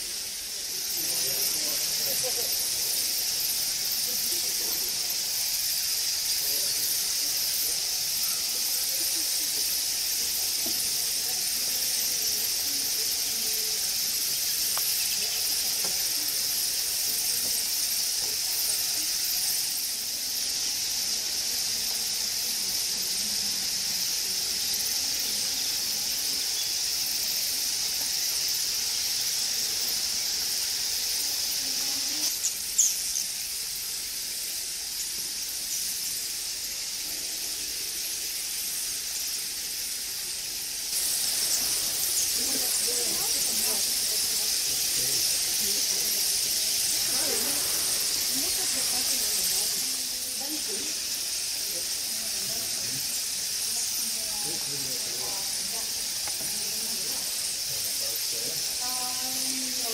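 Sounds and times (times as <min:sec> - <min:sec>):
chorus of small animals: 0:00.0 - 0:59.9.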